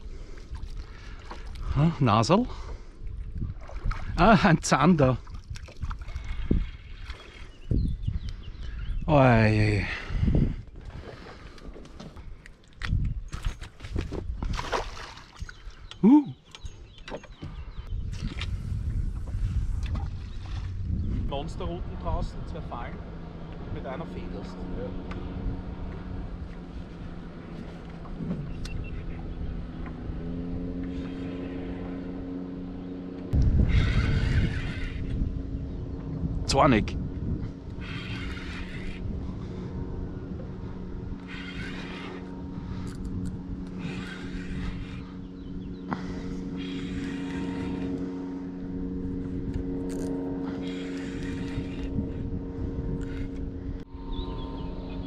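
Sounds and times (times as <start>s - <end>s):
boat engine droning: 0.0s - 55.0s
outboard motor running: 0.0s - 55.0s
wind and water rumble: 0.0s - 55.0s.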